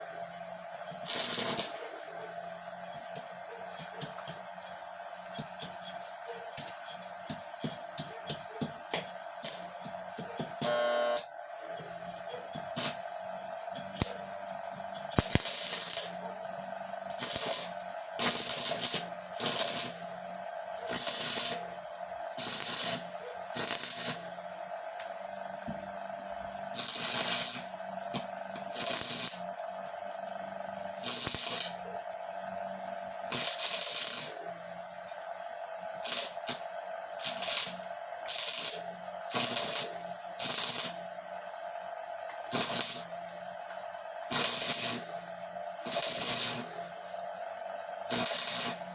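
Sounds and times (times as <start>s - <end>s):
arc welder crackling and hissing: 0.0s - 48.9s
steady hum: 0.0s - 48.9s.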